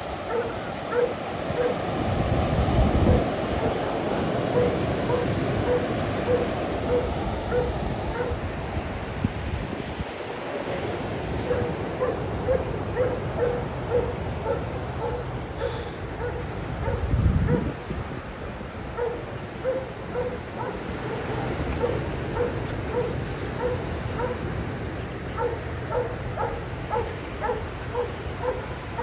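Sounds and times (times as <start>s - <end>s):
surf rushing: 0.0s - 29.0s.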